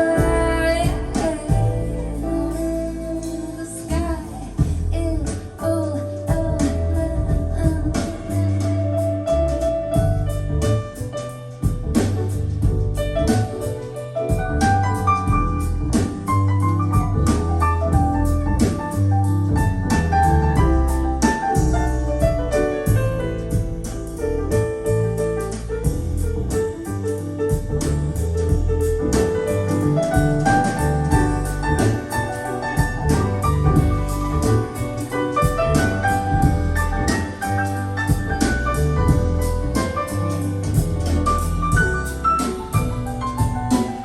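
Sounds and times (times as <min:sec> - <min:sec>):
piano: 0:00.0 - 0:44.0
strong bass line: 0:00.0 - 0:44.0.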